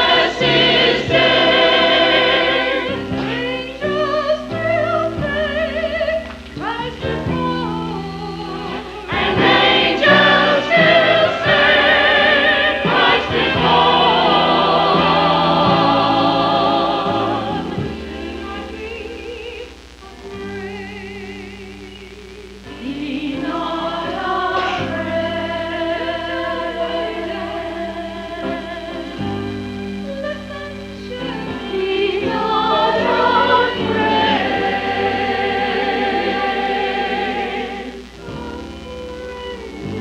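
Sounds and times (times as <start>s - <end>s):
choir singing: 0.0s - 19.7s, 22.7s - 40.0s.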